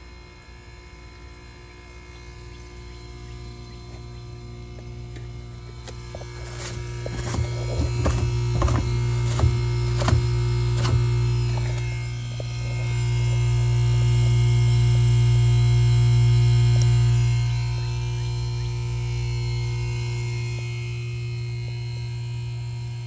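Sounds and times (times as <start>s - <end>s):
heat pump electric hum: 0.0s - 23.0s.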